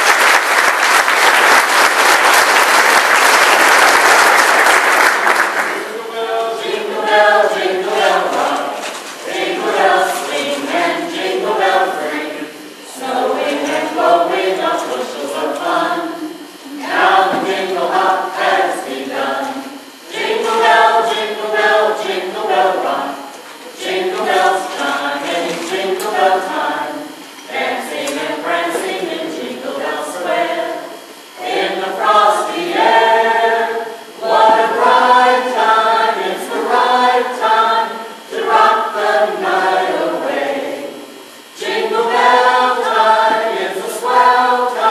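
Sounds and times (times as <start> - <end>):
mixed choir singing a cappella: 0.0 - 44.9.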